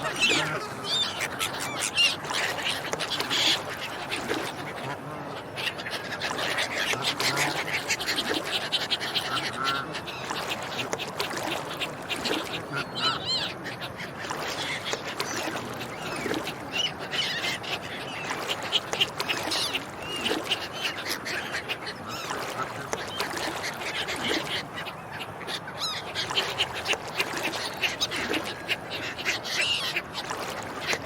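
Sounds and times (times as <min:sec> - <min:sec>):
flock of ducks quacking: 0:00.0 - 0:31.0.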